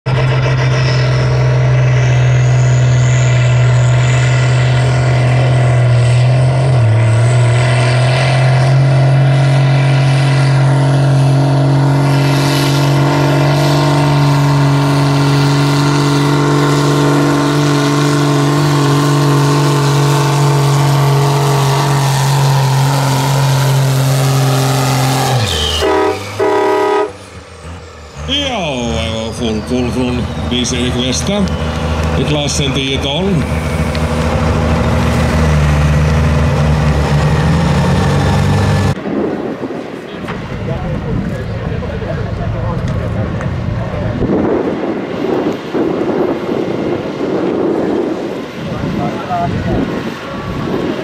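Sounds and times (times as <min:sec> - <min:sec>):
tractor engine under heavy load: 0:00.0 - 0:51.0.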